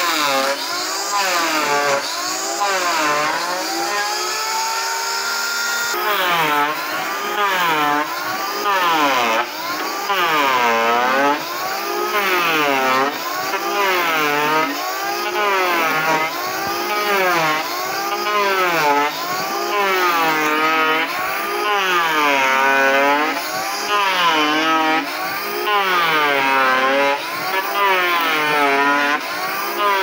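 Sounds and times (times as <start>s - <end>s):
electric hand planer whining: 0.0s - 30.0s
hiss of wood cutting: 0.0s - 30.0s.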